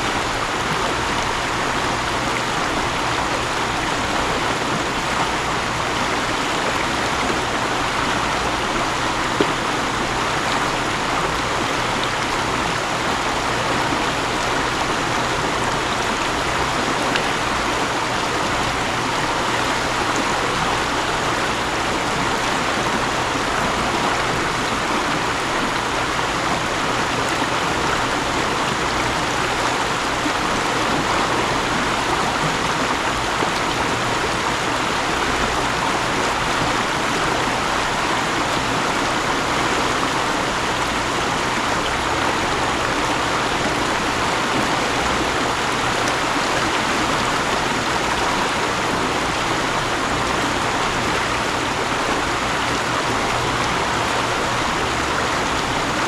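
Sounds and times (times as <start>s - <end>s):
mountain stream flowing: 0.0s - 56.0s.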